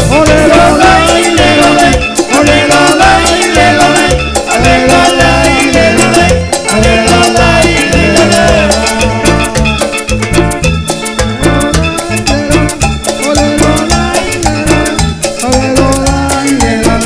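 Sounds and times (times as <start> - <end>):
electric guitar melody: 0.0 - 17.0
timbales and percussion: 0.0 - 17.0.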